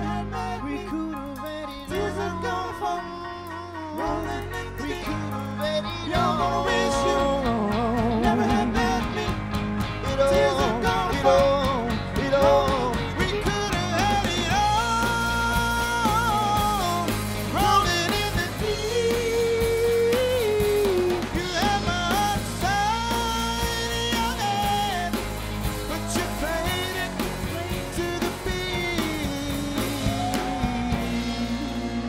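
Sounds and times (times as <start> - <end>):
live band playing: 0.0 - 32.0
man singing: 0.0 - 32.0.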